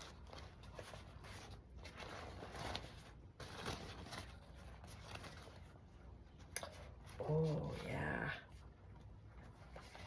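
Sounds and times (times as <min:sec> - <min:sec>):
rustling handling noises: 0:00.0 - 0:10.0.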